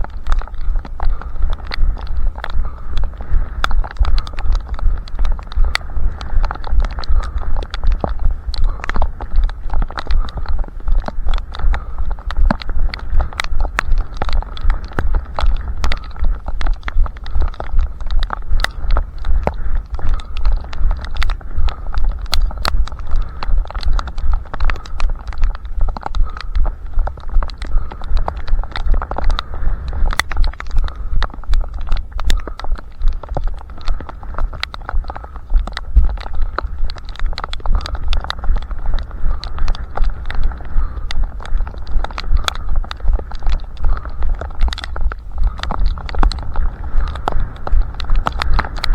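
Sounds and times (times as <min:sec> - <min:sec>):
heavy low rumble: 0:00.0 - 0:48.9
runner's footsteps: 0:00.0 - 0:48.9
sharp ticks: 0:00.0 - 0:48.9.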